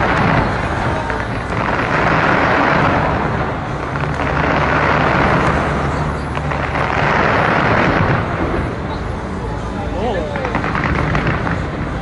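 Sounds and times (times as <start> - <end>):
distant fireworks crackle: 0.0 - 12.0.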